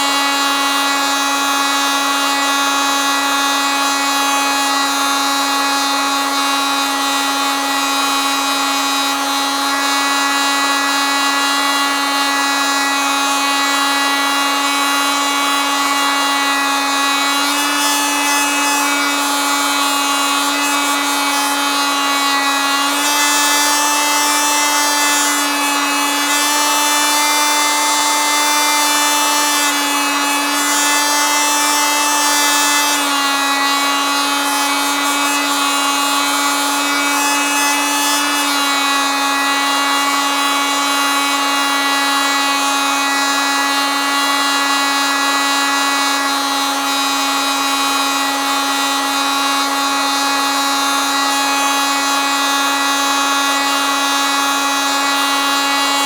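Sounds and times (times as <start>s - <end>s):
oscillating multitool buzzing: 0.0s - 56.0s.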